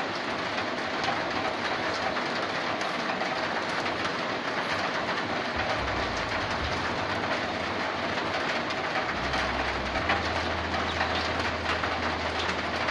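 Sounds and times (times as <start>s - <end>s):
rainwater pouring onto metal roof: 0.0s - 12.9s.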